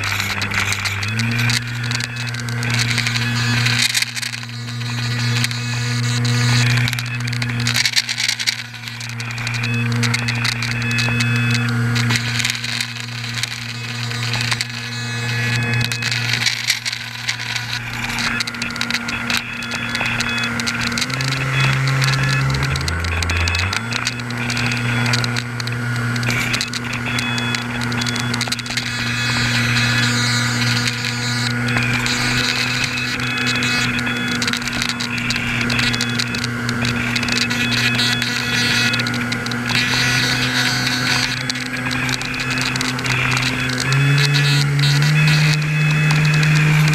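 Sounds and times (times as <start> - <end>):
crackle of small clicks: 0.0 - 46.9
electric motor and propeller hum: 0.0 - 46.9.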